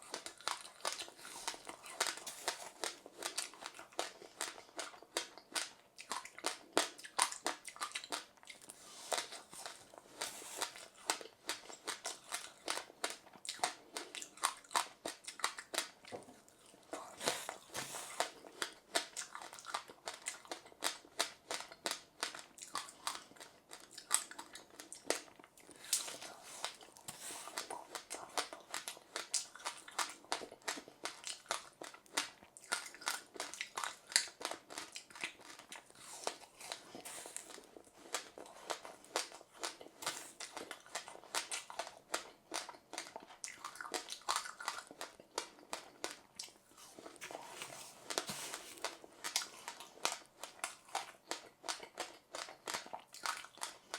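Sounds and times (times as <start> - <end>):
chewing crunchy seeds: 0.0 - 53.9.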